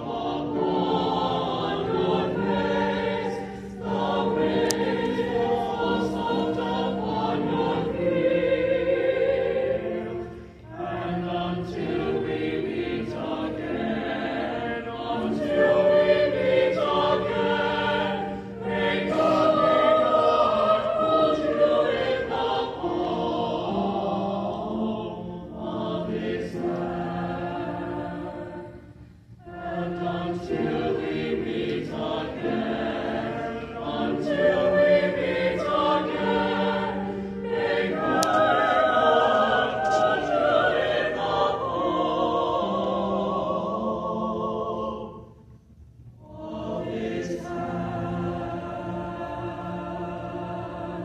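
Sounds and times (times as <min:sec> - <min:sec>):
choir singing in harmony: 0:00.0 - 0:51.0.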